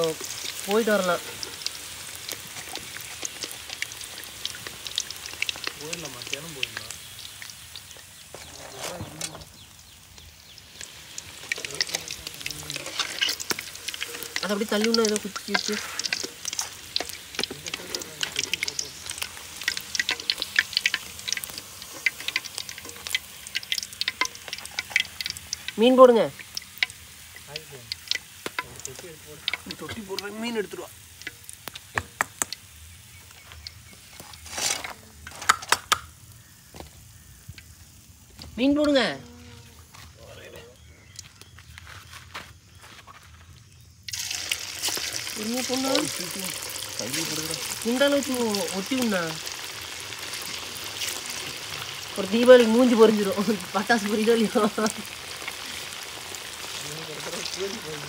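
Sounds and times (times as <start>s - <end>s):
fish frying in hot oil: 0.0s - 41.2s, 43.5s - 58.0s.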